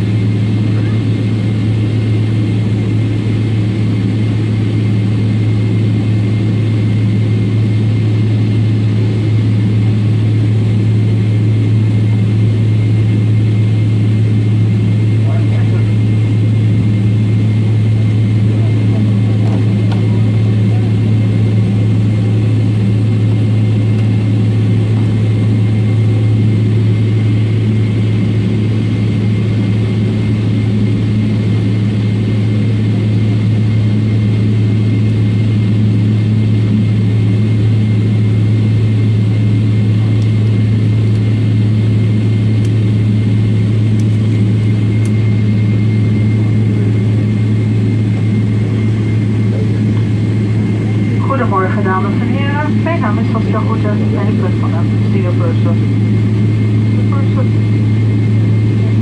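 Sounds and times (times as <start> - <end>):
jet engines low hum: 0.0 - 59.0.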